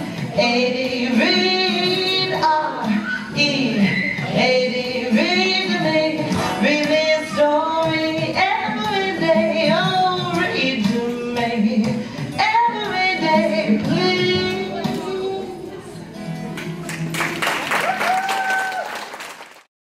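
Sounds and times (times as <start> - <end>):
woman singing: 0.0 - 16.0
acoustic guitar: 0.0 - 17.7.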